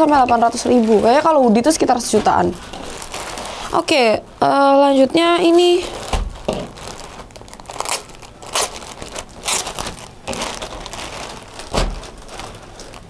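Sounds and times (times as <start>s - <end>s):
garment and packaging rustling: 0.0s - 13.0s.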